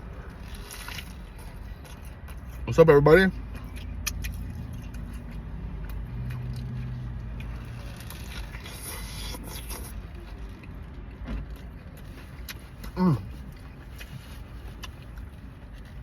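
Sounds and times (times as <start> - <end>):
chewing and crunching burger: 0.0 - 2.7, 3.3 - 16.0.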